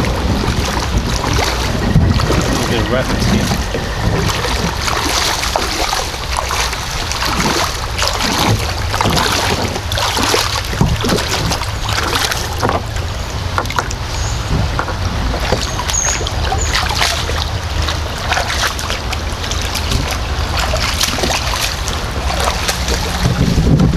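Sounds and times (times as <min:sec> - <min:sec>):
feet splashing through water: 0:00.0 - 0:23.9
water rippling over rocks: 0:00.0 - 0:23.9.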